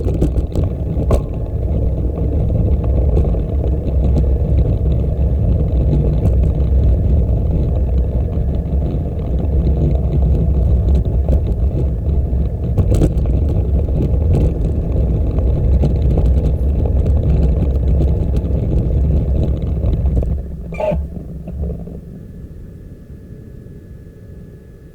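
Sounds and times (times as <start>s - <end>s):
wind rumble on microphone: 0.0s - 24.9s.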